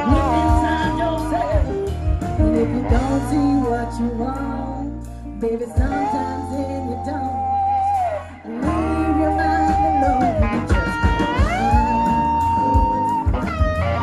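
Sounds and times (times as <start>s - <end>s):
person singing long notes: 0.0s - 13.4s
bass line: 0.0s - 14.0s
guitar: 0.0s - 14.0s.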